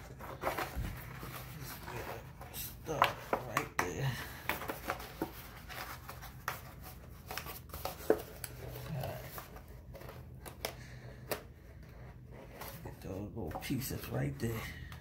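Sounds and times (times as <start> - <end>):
cardstock rustling and scraping: 0.0 - 14.2.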